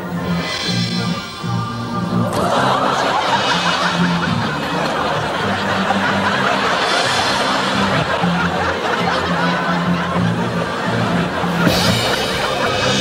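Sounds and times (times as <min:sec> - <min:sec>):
audience laughter: 0:00.0 - 0:13.0.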